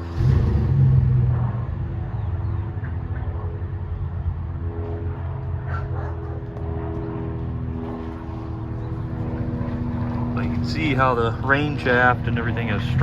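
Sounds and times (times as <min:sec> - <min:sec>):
droning hum: 0:00.0 - 0:13.0
low engine rumble: 0:00.0 - 0:13.0.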